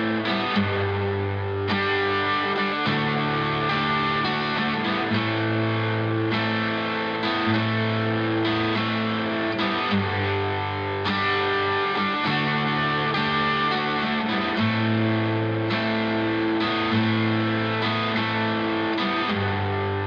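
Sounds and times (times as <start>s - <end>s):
guitar chords: 0.0s - 20.0s.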